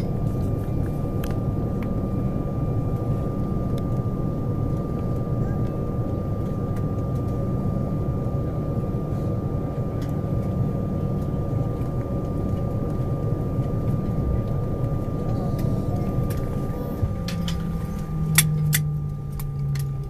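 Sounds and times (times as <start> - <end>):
airliner cabin rumble: 0.0 - 20.0
thin steady whine: 0.0 - 20.0.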